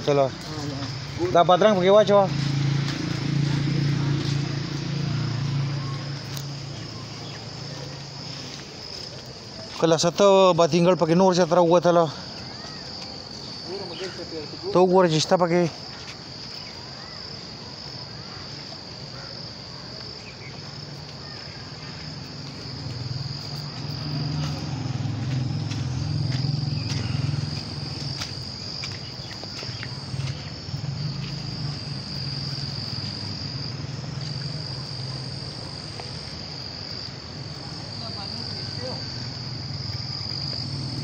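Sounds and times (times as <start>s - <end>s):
insects singing: 0.0s - 41.0s.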